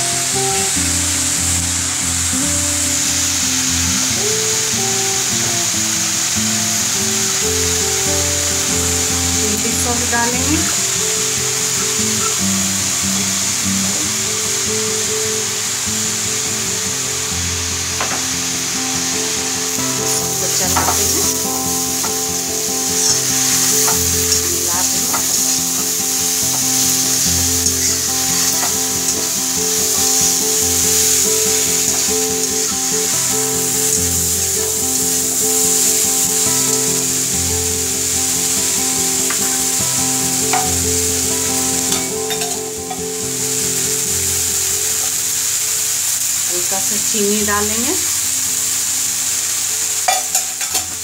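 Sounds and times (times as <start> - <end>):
vegetables sizzling in a pan: 0.0 - 51.0.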